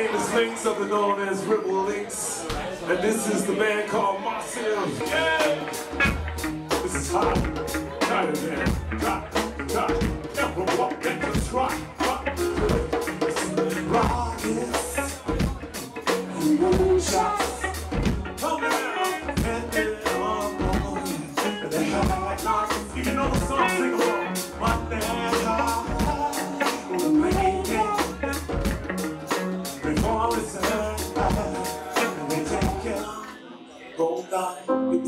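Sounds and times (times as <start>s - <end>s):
keyboards: 3.6s - 35.0s
electric guitar: 4.8s - 33.4s
drum kit beat: 5.0s - 33.3s.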